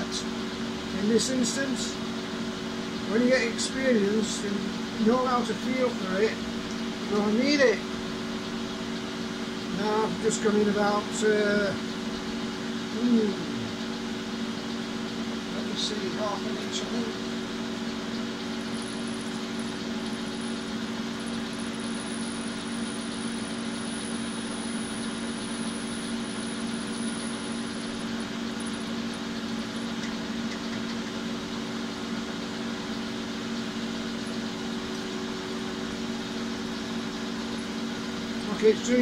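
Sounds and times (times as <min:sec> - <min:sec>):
metal lathe drilling: 0:00.0 - 0:39.0.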